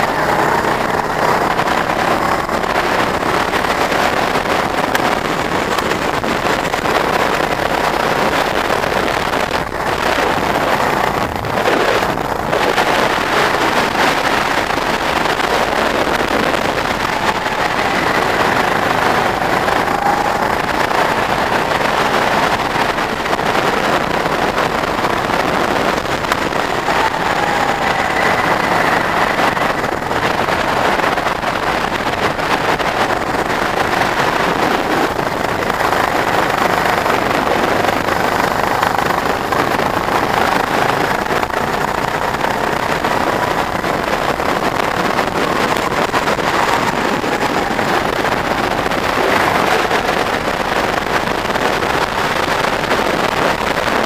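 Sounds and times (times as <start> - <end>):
go-kart engine: 0.0 - 54.0
wind noise on microphone: 0.0 - 54.0.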